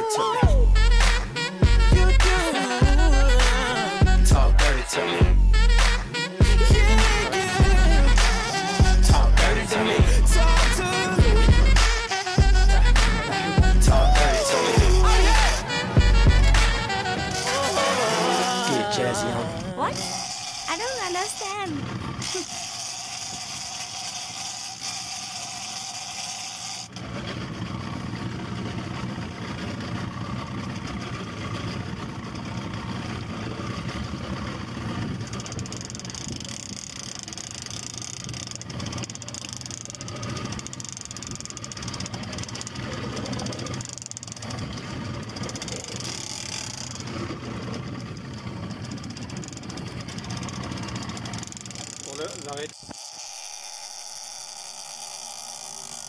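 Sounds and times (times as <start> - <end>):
boat engine running: 0.0 - 56.0
sea noise: 0.0 - 56.0
wind: 3.4 - 56.0.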